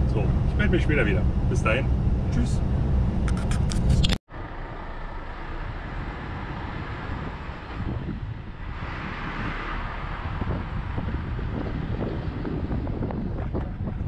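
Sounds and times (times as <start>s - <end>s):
lorry driving on road: 0.0s - 14.0s.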